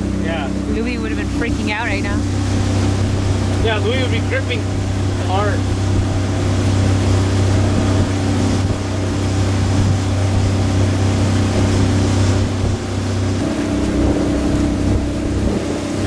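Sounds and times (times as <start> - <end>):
outboard motor drone: 0.0 - 16.0
rushing water: 0.0 - 16.0
wind noise: 1.6 - 16.0.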